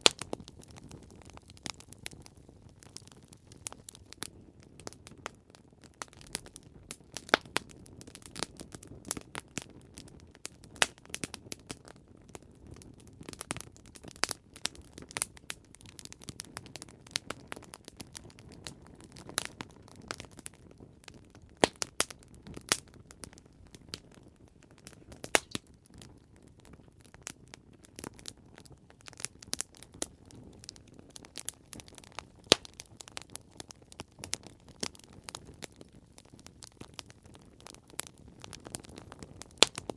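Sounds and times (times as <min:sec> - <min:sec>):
campfire crackling: 0:00.0 - 0:39.9
fire pops and snaps: 0:00.0 - 0:39.9
low rumble of burning: 0:00.0 - 0:39.9.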